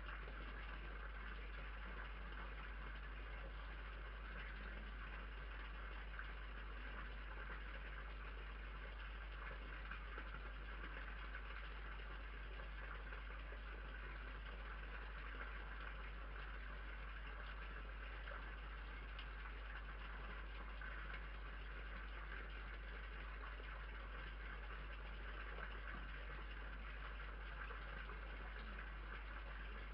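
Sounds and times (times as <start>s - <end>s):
constant low hum: 0.0s - 29.9s.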